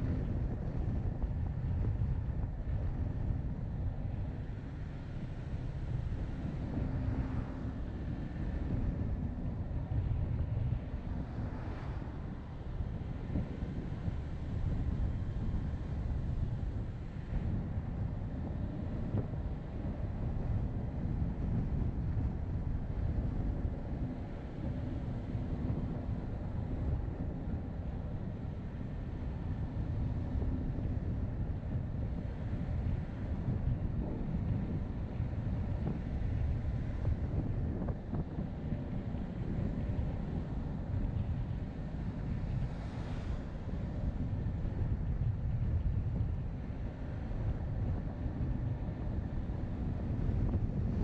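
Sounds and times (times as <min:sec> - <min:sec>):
road and wind noise: 0:00.0 - 0:51.0.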